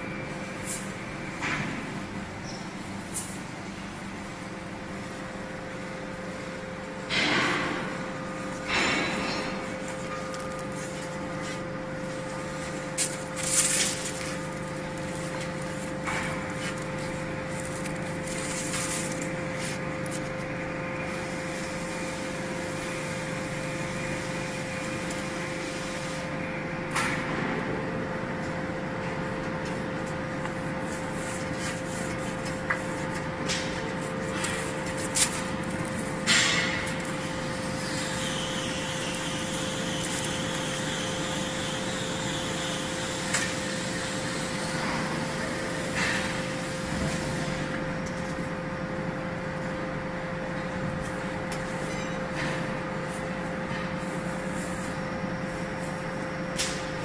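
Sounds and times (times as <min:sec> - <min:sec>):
hydraulic unit humming and whining: 0:00.0 - 0:57.0.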